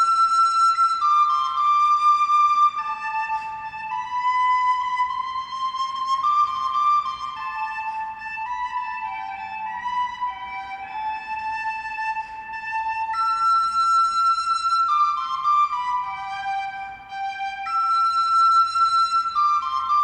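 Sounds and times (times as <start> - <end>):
slow flute-like melody: 0.0 - 20.0.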